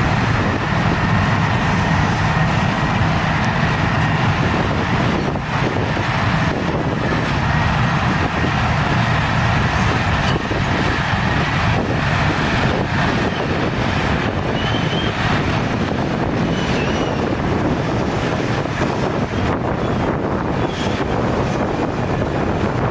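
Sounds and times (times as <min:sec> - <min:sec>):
heavy diesel machinery rumble: 0:00.0 - 0:22.9.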